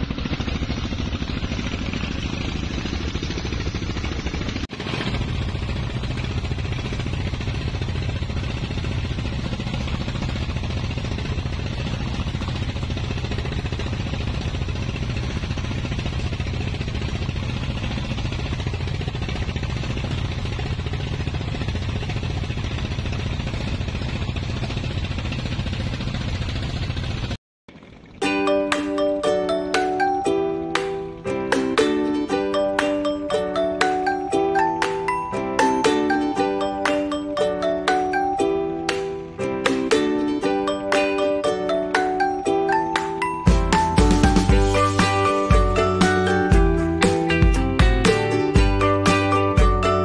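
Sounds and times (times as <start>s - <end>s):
motor boat engine drone: 0.0s - 50.0s.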